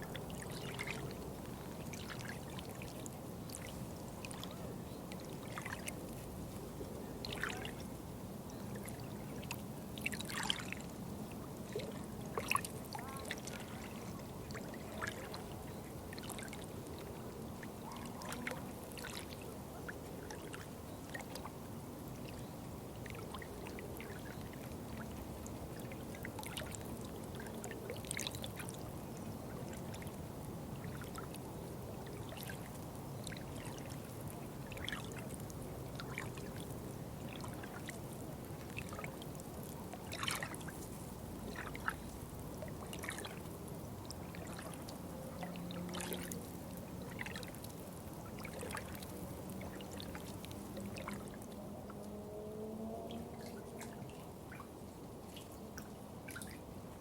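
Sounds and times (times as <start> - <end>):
running water trickling: 0.0 - 56.9
water splashes and drips: 0.0 - 57.0.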